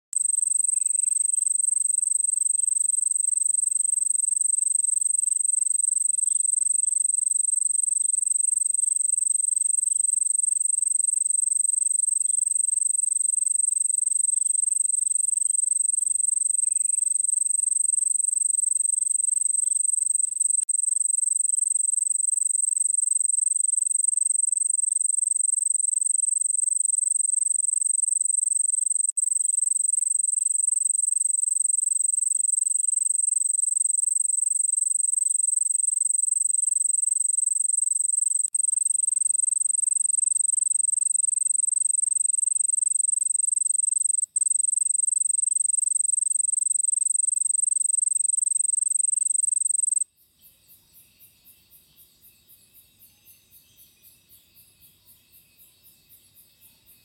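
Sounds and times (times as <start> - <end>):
crickets trilling: 0.2 - 50.0.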